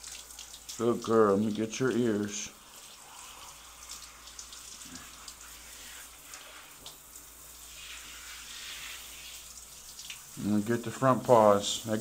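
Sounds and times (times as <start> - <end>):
shower sprayer hissing: 1.9 - 12.0.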